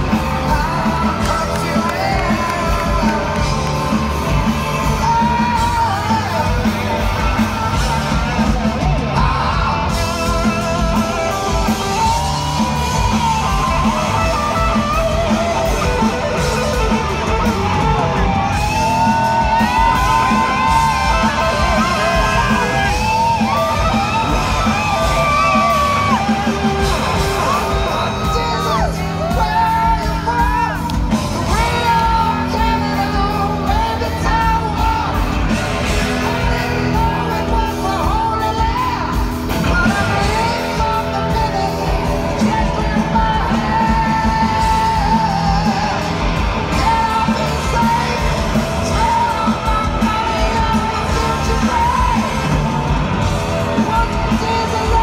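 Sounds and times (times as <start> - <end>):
electric guitar solo: 0.0 - 55.0
live rock band playing: 0.0 - 55.0.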